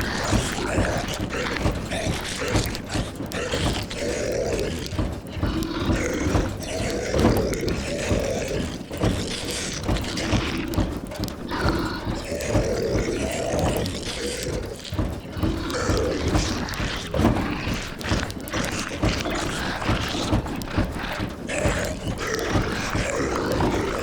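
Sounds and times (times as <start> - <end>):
rain on a roof: 0.0 - 24.0
zombie moans and growls: 0.0 - 24.0.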